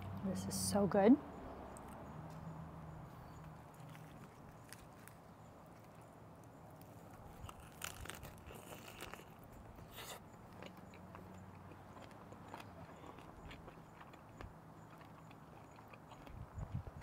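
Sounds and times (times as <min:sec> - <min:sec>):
crunchy chewing: 0:01.7 - 0:17.0.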